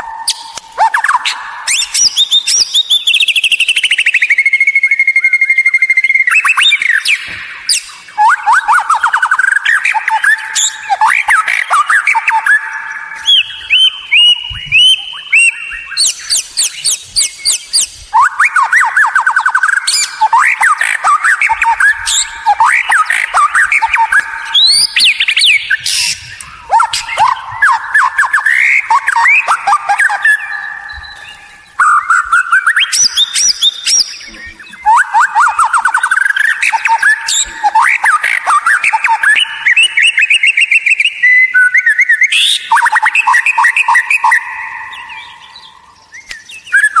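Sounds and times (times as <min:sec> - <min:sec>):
bird singing whistled song: 0:00.0 - 0:47.0.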